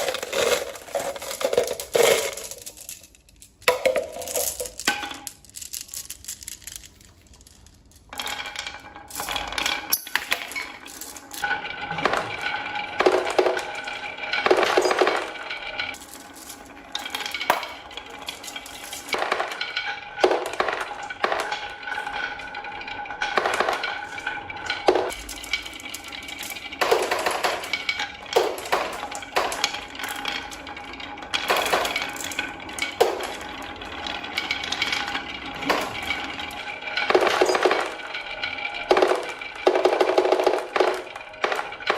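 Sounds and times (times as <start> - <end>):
marbles rolling down wooden run: 0.0 - 41.9.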